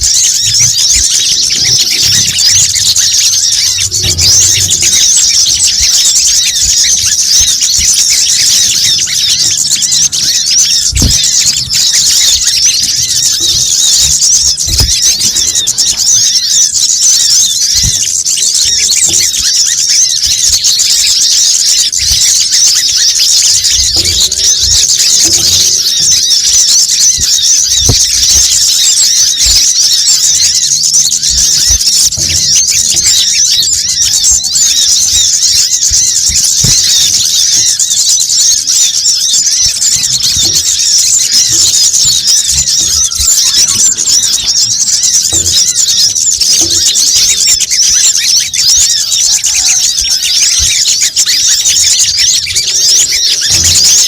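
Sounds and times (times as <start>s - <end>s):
chorus of small birds chirping: 0.0s - 54.0s.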